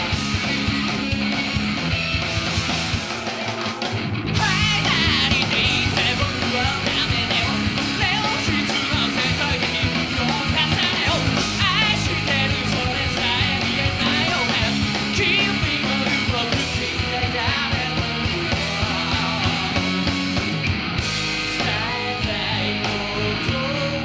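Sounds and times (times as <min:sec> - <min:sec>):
punk rock band playing live: 0:00.0 - 0:24.0
steady drum beat: 0:00.0 - 0:24.0.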